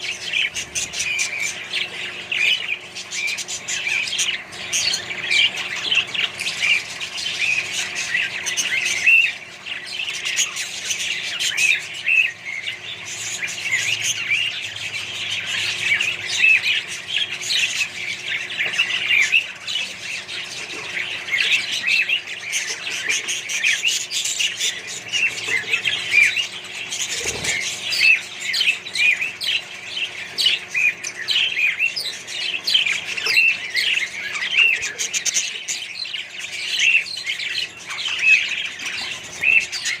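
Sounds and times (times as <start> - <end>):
parrots chattering and squawking: 0.0 - 40.0.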